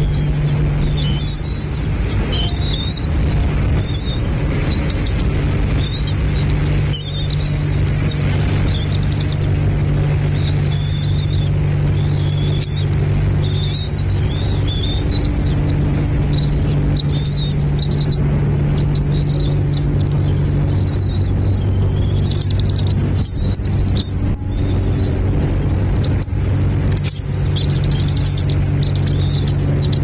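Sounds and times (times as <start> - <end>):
loud low hum: 0.0 - 30.0
small birds chirping: 0.0 - 30.0.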